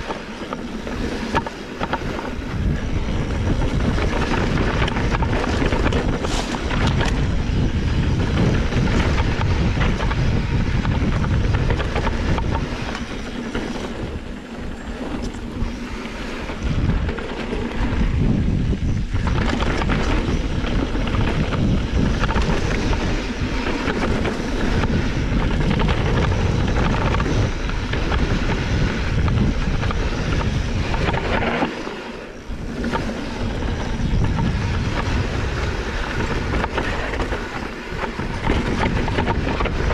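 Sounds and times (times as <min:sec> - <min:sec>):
bike tyres rolling on dirt: 0:00.0 - 0:39.9
wind rushing over microphone: 0:00.0 - 0:39.9.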